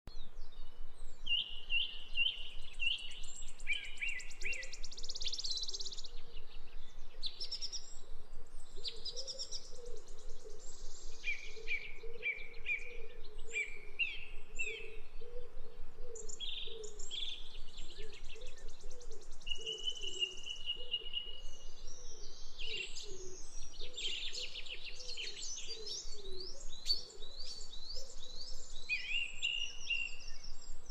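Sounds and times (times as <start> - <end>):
birds chirping and singing: 0.2 - 30.9.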